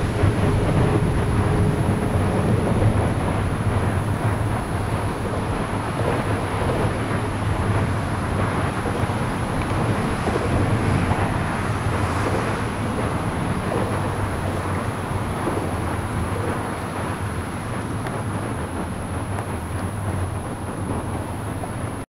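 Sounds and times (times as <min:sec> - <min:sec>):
low rumble with hiss: 0:00.0 - 0:22.0.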